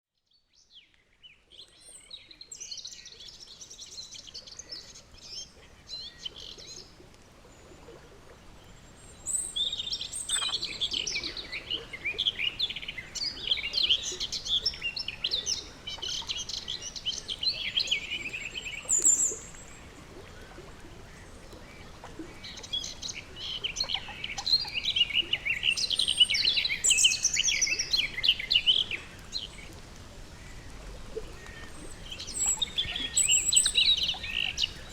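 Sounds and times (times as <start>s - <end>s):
faint background hiss: 0.4s - 34.9s.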